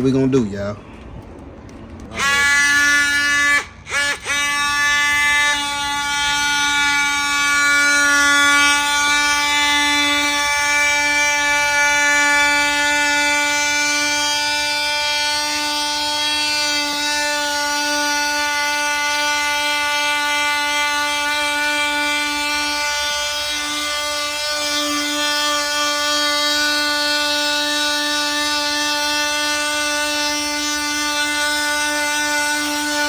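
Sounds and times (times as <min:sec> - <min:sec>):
power sander whining: 0:02.1 - 0:33.0.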